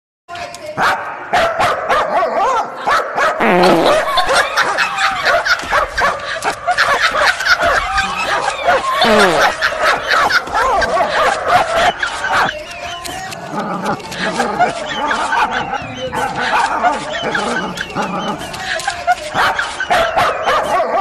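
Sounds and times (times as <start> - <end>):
dog barking and yipping: 0.8 - 21.0.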